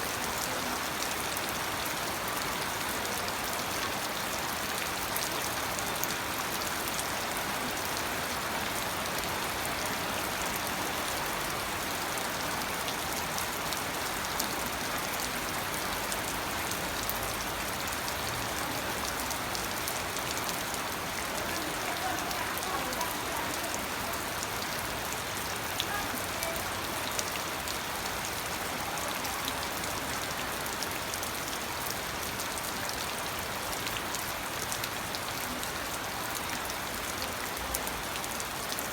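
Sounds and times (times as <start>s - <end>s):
rain falling: 0.0s - 38.9s
raindrops pattering on a surface: 0.0s - 38.9s.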